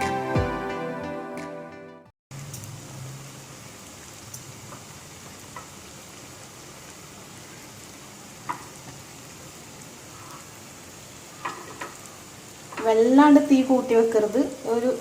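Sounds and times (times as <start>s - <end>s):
batter sizzling in hot oil: 2.3s - 15.0s.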